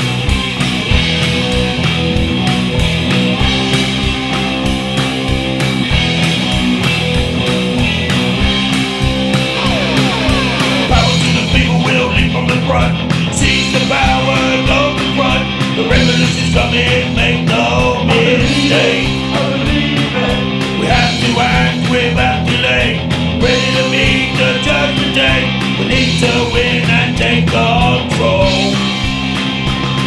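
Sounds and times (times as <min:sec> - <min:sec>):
punk rock band playing: 0:00.0 - 0:30.0.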